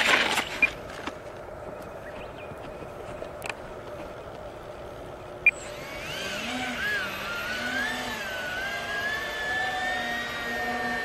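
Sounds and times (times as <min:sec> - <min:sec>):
electric motors and rotors whining: 0:00.0 - 0:11.0.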